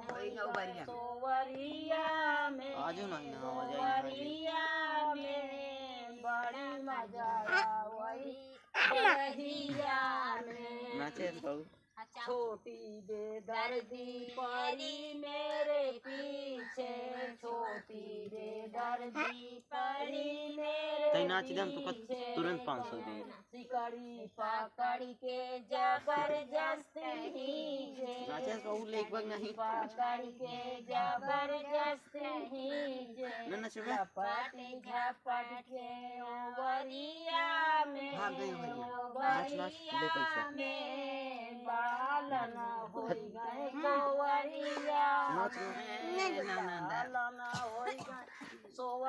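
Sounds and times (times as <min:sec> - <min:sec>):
women singing folk song: 0:00.0 - 0:49.0.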